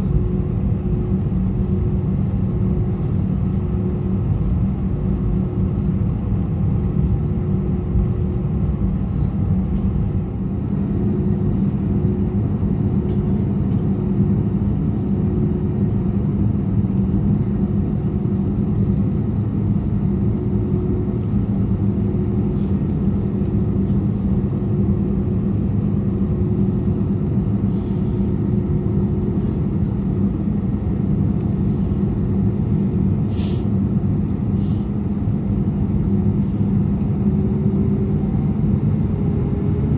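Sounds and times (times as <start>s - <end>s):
constant hum: 0.0s - 39.9s
jet engine and airflow rumble: 0.0s - 39.9s.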